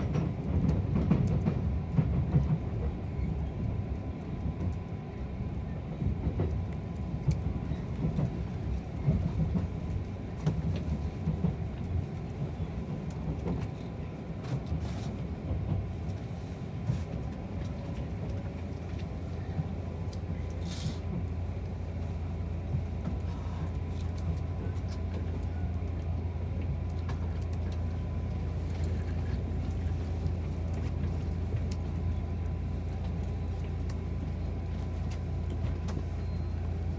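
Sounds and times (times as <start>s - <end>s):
train rumbling on rails: 0.0s - 36.9s.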